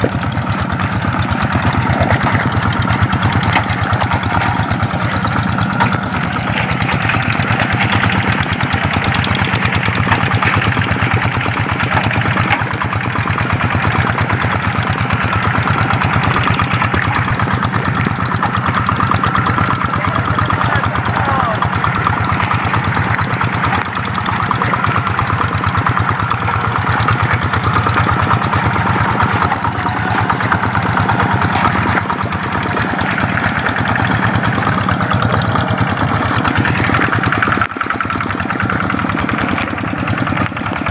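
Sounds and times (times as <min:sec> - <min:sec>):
tractor diesel engine chugging: 0:00.0 - 0:40.9.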